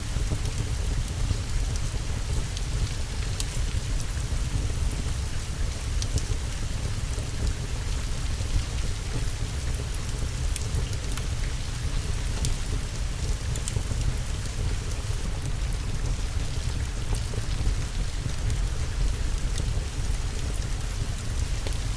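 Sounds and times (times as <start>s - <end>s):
steady rain: 0.0s - 21.9s
wood fire crackling: 0.2s - 21.9s.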